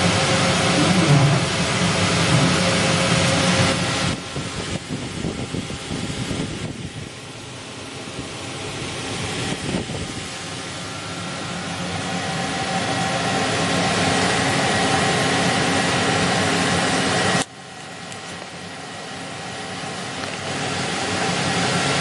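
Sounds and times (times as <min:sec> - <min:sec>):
lathe running with whining tones: 0:00.0 - 0:22.0.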